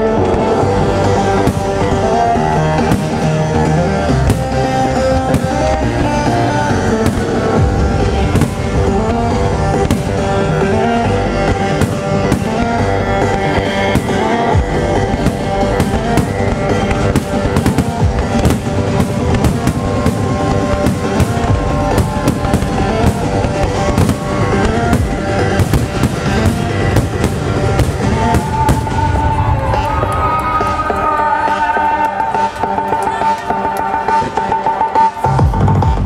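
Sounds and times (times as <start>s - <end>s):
fireworks cracking and bursting: 0.0s - 35.1s
trance music over loudspeakers: 0.0s - 36.0s.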